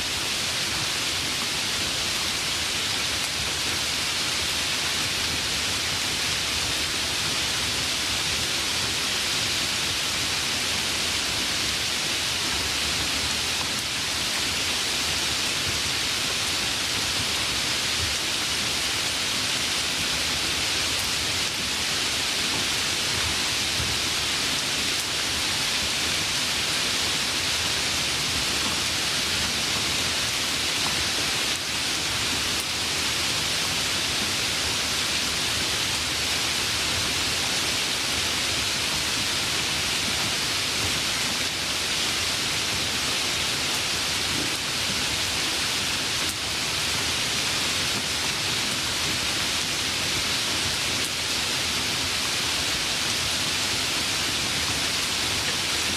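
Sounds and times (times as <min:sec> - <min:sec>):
steady rainfall hiss: 0:00.0 - 0:55.9.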